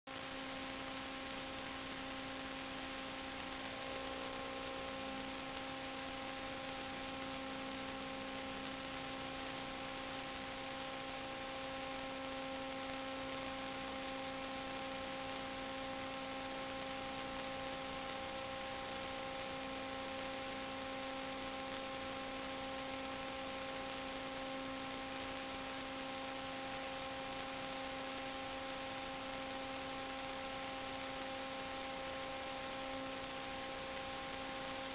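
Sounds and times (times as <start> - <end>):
electrical hum: 0.1 - 34.9.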